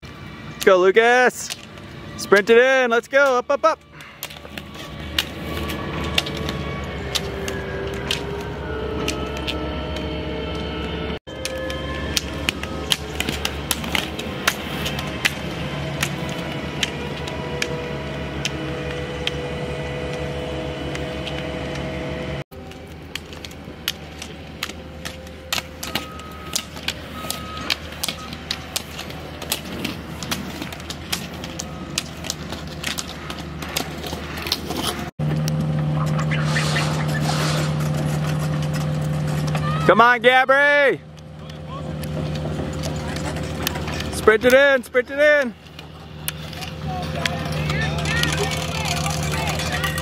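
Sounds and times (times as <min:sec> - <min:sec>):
roller skis rolling on asphalt: 0:00.0 - 0:50.0
ski pole tips clicking on pavement: 0:03.2 - 0:09.6, 0:11.4 - 0:20.3, 0:22.6 - 0:39.8, 0:41.1 - 0:50.0.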